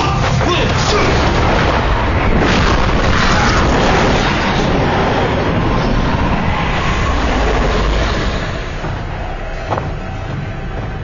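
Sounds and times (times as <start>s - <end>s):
long rumbling boom: 0.2s - 10.8s.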